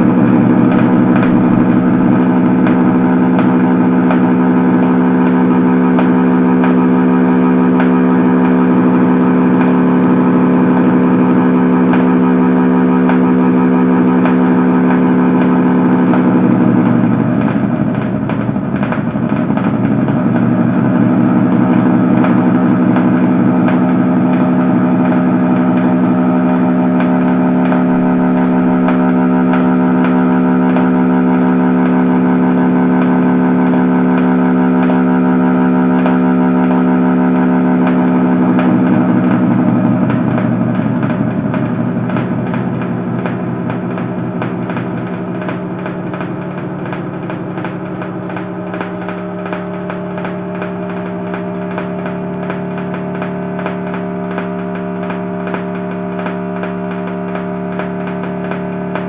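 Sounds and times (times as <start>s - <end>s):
synthesizer drone: 0.0s - 59.0s.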